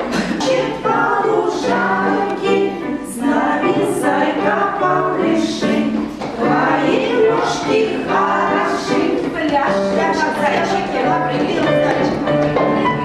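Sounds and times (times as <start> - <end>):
voices singing in unison: 0.0 - 12.2
musical accompaniment: 0.0 - 13.0.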